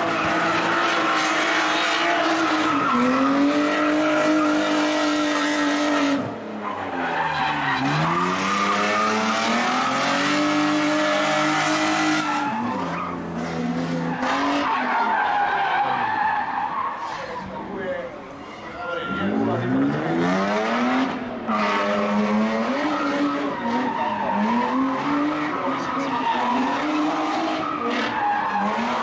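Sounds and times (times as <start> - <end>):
car engine at high revs: 0.0 - 16.4, 19.1 - 29.0
tyres squealing and skidding: 0.0 - 29.0.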